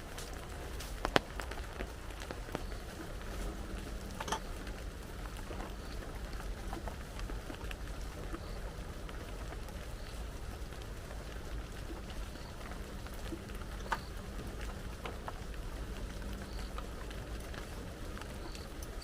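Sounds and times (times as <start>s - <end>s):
raindrops ticking: 0.0s - 19.0s
steady rain: 0.0s - 19.0s.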